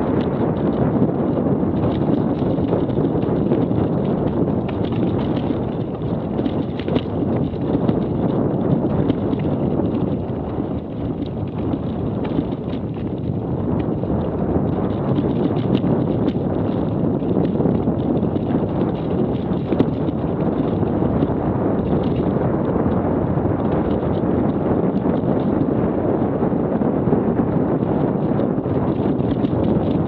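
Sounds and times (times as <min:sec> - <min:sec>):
bike rattling: 0:00.0 - 0:25.7, 0:27.7 - 0:30.0
wind buffeting microphone: 0:00.0 - 0:30.0.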